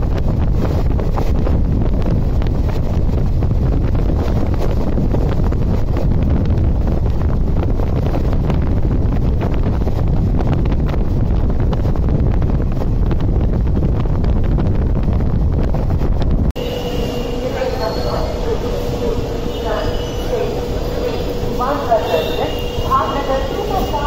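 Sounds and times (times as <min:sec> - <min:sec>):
train rumbling and rattling on track: 0:00.0 - 0:24.0
wind buffeting microphone: 0:00.0 - 0:24.0.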